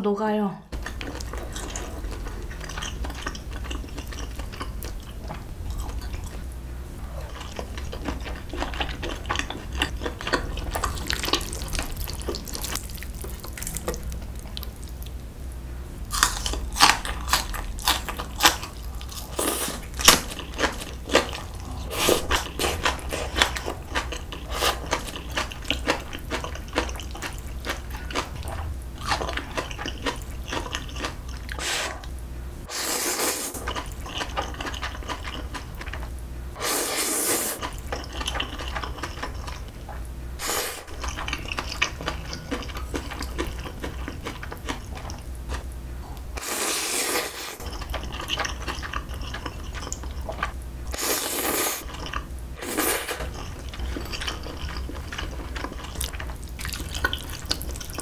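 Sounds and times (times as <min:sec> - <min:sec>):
wet chewing: 0:00.8 - 0:06.5, 0:07.2 - 0:15.2, 0:16.1 - 0:32.1, 0:33.5 - 0:36.1, 0:37.0 - 0:45.6, 0:46.2 - 0:58.0.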